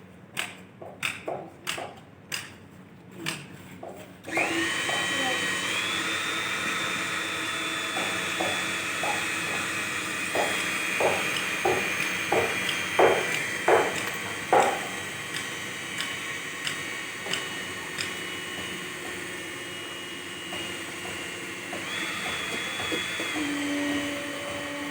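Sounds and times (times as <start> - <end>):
power tool motor whining: 4.3 - 24.9.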